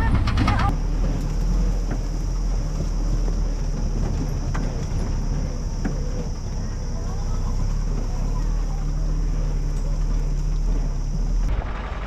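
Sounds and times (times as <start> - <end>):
off-road vehicle rumble: 0.0 - 12.0.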